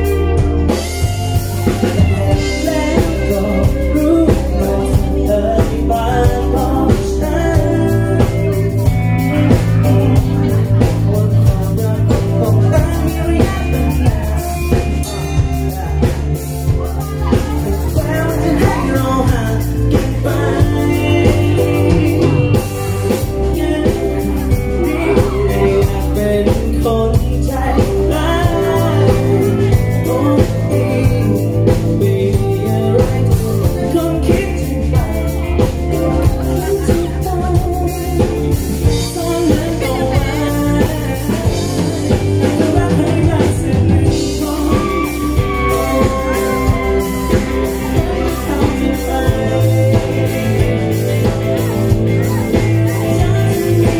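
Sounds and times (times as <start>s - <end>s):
bass: 0.0s - 53.9s
drums: 0.0s - 53.9s
electric guitar: 0.0s - 53.9s
keyboard: 0.0s - 53.9s
lead and backing vocals: 0.0s - 53.9s.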